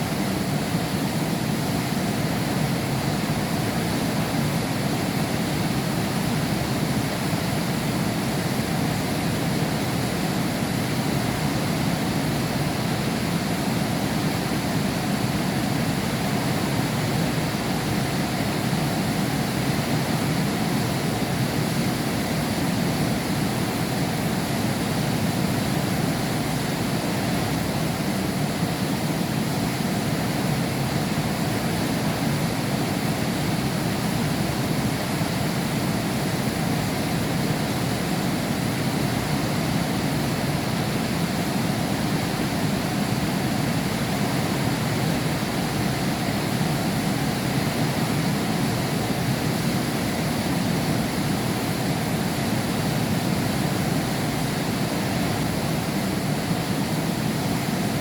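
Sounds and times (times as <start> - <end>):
heavy rain behind window: 0.0 - 58.0.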